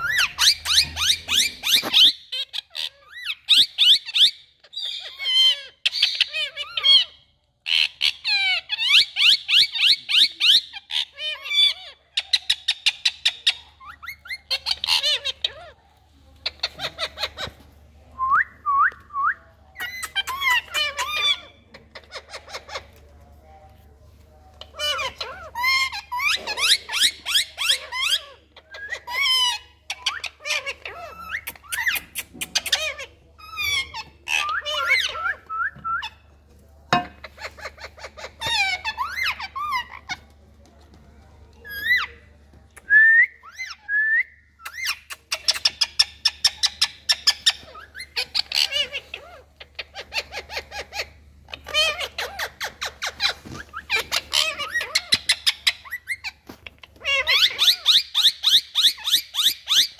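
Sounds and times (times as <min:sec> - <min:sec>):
parakeets chattering and squawking: 0:00.0 - 0:18.1, 0:19.7 - 0:42.5, 0:44.7 - 0:59.9.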